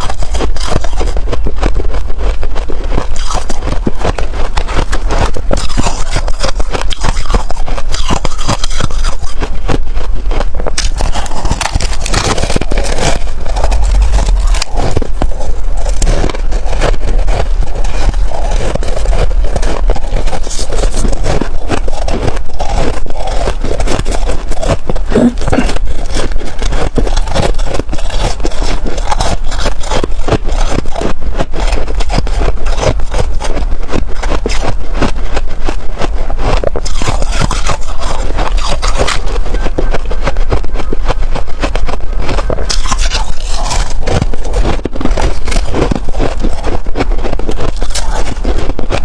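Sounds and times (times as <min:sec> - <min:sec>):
freezer frost crunching: 0:00.0 - 0:49.0.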